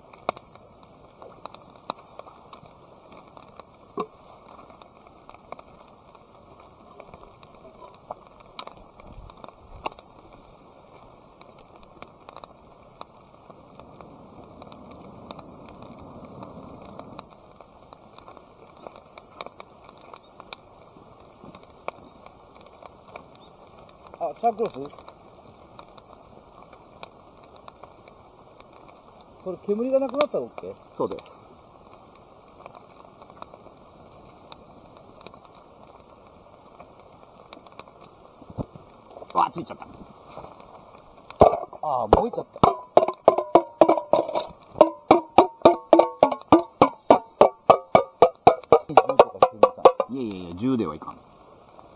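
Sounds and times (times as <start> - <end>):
low rushing hiss: 0.0 - 51.9
sharp pops: 0.0 - 51.9
wood fire crackling: 0.0 - 51.9.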